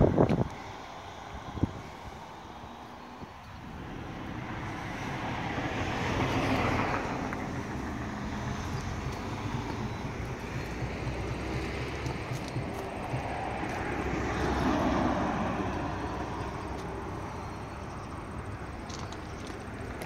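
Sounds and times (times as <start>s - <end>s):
traffic hum: 0.0s - 20.0s
vehicle passing: 0.0s - 20.0s.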